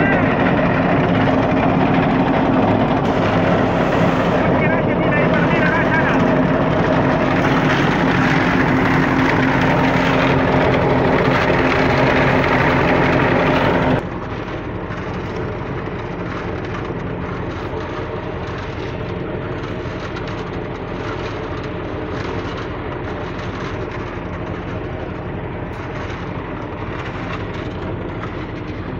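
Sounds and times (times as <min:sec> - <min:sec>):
concrete mixer rumbling: 0:00.0 - 0:28.9.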